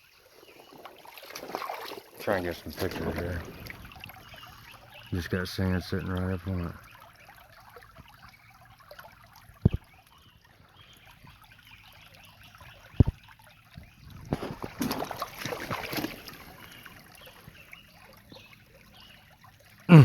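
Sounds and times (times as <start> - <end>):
trickling creek water: 0.0 - 20.0.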